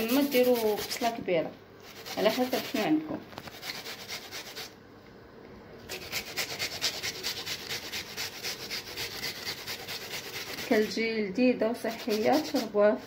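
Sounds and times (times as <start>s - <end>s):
onion grated on metal grater: 0.0s - 1.2s, 1.8s - 4.8s, 5.9s - 13.0s.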